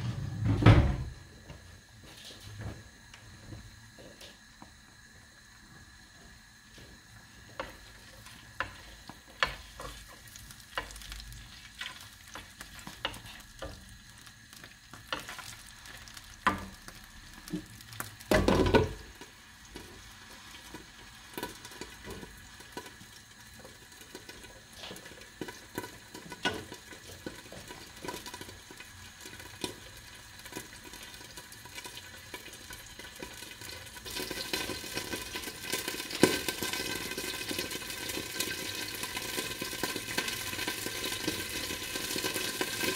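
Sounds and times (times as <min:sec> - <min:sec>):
food sizzling in a frying pan: 0:01.2 - 0:42.9.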